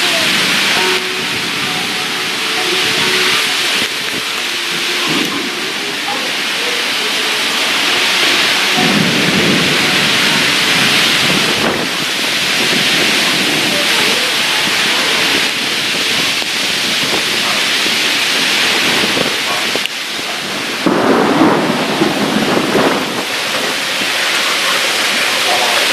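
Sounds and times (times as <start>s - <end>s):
low rolling thunder: 0.0s - 6.7s, 7.4s - 25.9s
heavy rain falling: 0.0s - 25.9s.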